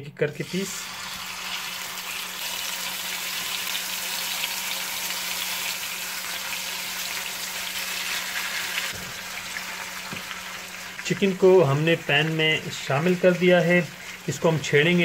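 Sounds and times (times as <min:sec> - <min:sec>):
chicken sizzling in hot oil: 0:00.4 - 0:15.0.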